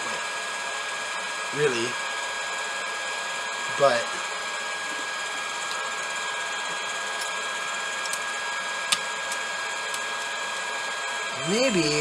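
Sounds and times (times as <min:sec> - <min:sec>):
electric fan running: 0:00.0 - 0:12.0.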